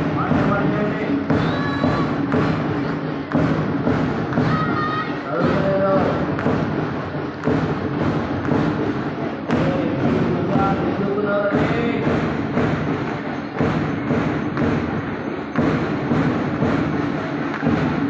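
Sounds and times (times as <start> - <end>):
drum marching beat: 0.0 - 18.0.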